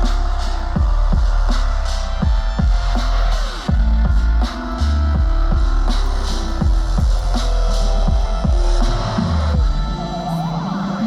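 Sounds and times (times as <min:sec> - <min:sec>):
kick drum: 0:00.0 - 0:10.4
sub-bass: 0:00.0 - 0:11.0.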